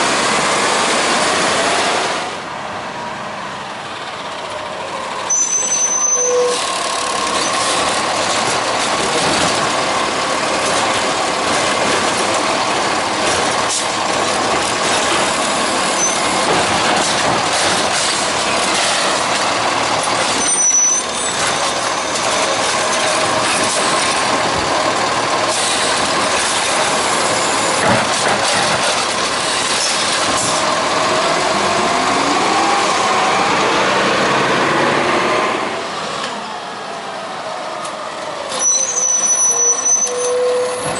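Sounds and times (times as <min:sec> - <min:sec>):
garbage truck engine: 0:00.0 - 0:40.9.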